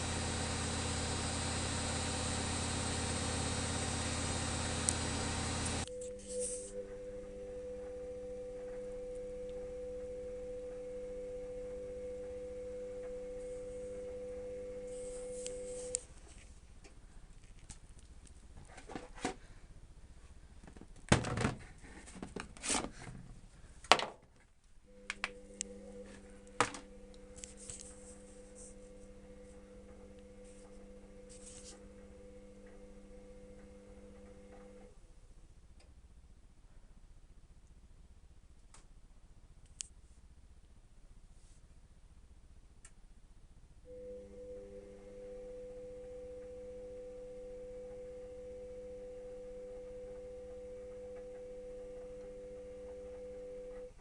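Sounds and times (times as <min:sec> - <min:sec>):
washing machine electrical hum: 0:00.0 - 0:23.8, 0:24.6 - 0:37.5, 0:42.0 - 0:54.0.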